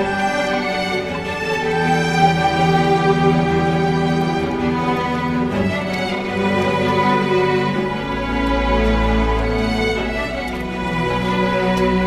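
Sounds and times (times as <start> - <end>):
slow sad orchestral music: 0.0 - 12.0.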